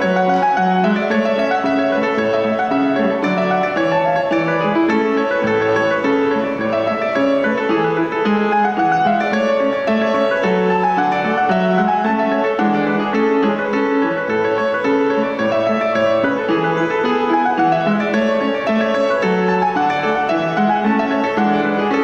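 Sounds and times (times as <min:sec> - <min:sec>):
dance tune on piano: 0:00.0 - 0:22.0.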